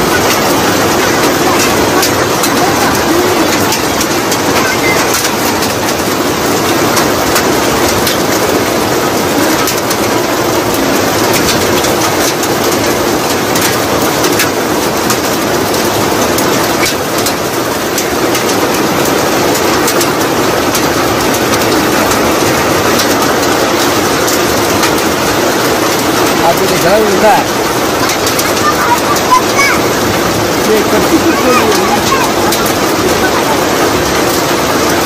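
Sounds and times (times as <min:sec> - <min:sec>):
heavy rain falling: 0:00.0 - 0:35.0
raindrops ticking nearby: 0:00.0 - 0:35.0.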